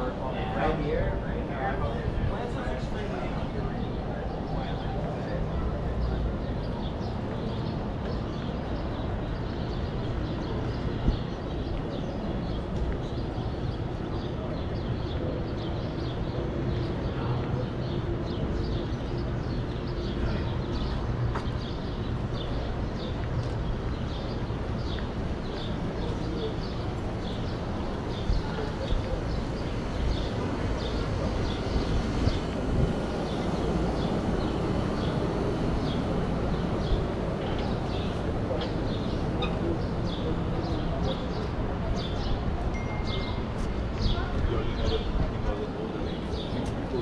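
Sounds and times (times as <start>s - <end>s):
traffic rumble: 0.0s - 47.0s.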